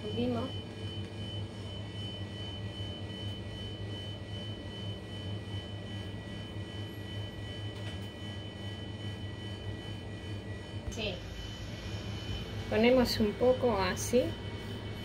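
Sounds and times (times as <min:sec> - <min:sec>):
appliance motor hum: 0:00.0 - 0:15.0.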